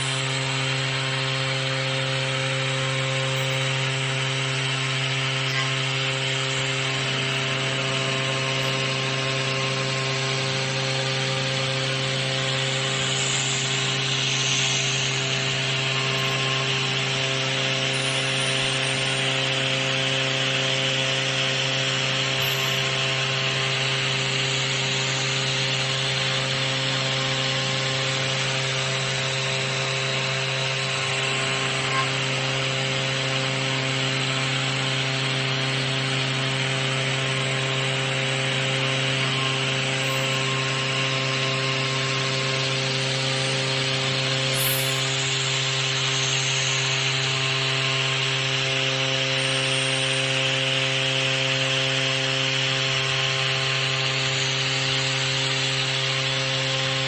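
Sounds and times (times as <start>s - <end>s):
cnc machine cutting: 0.0s - 57.0s.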